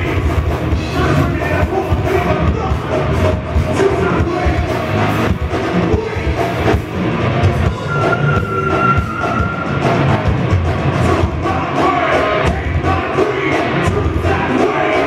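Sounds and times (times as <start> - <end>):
heavy metal band playing live: 0.0 - 15.0.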